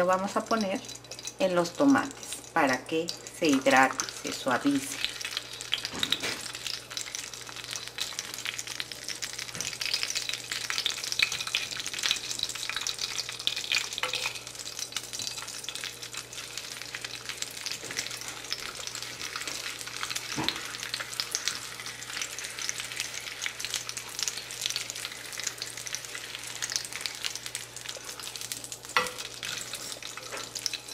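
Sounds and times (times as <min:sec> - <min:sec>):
hot oil crackling and sizzling: 0:00.0 - 0:30.9.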